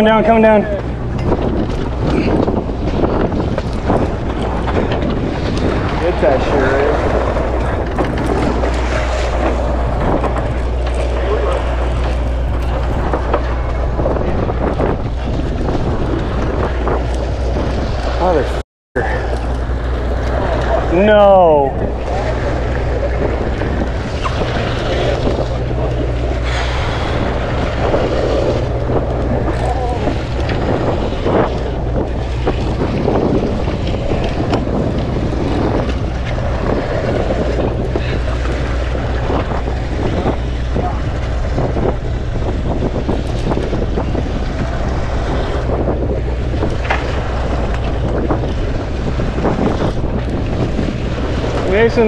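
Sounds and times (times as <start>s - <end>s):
boat engine drone: 0.0s - 52.0s
water washing along hull: 0.0s - 52.0s
wind buffeting microphone: 0.0s - 52.0s.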